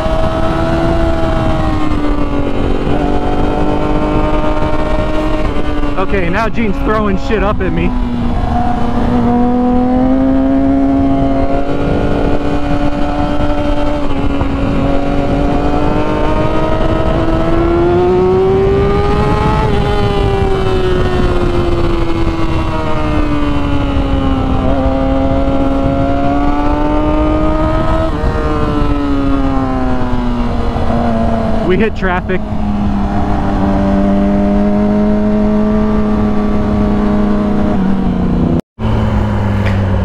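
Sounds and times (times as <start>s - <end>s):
motorcycle engine running: 0.0s - 40.0s
wind rush: 0.0s - 40.0s.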